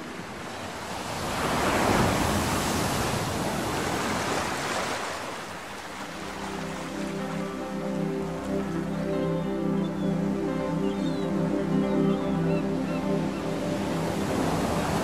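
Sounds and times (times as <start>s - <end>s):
sea water rushing and splashing: 0.0s - 15.0s.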